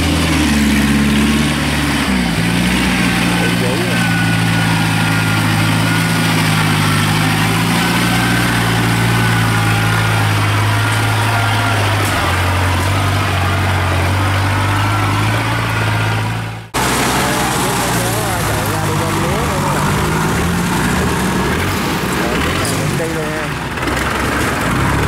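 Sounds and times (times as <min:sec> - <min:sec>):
tracked vehicle engine running: 0:00.0 - 0:25.0.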